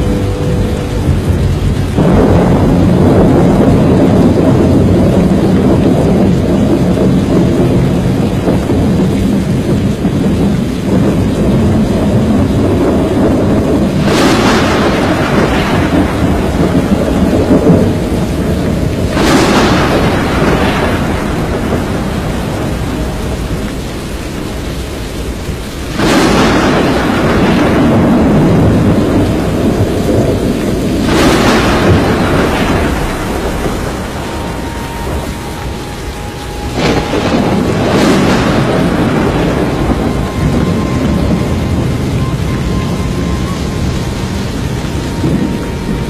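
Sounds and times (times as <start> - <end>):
thunder crashes: 0.0 - 46.0
wind and rain rumble: 0.0 - 46.0.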